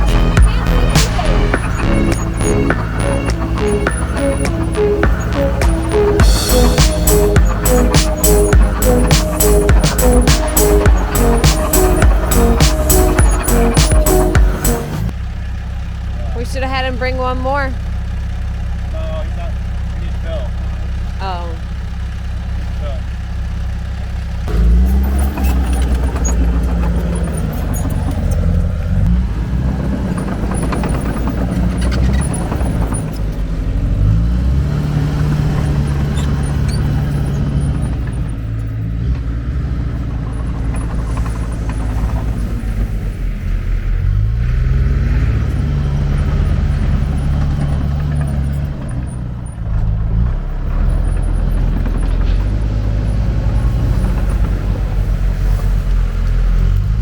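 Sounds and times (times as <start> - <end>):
heavy diesel engine revving: 0.0 - 57.0.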